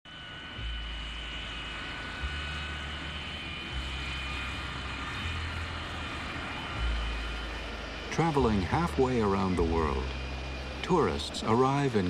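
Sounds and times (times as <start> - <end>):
jet engines whining: 0.1 - 12.0.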